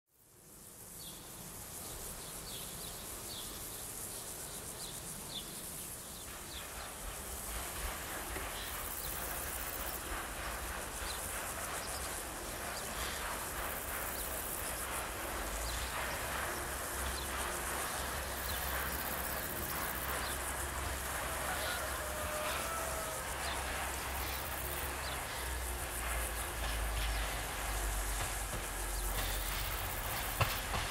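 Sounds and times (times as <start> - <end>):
insects buzzing: 0.2 - 30.9
railcar approaching rumble: 0.4 - 30.9.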